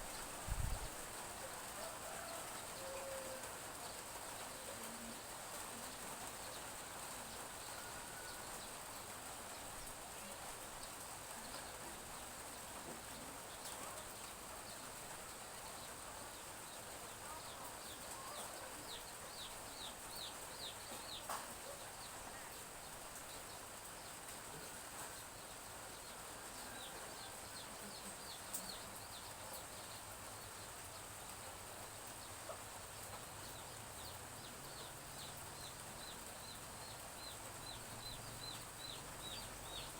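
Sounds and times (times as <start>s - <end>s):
light drizzle falling: 0.0s - 39.9s.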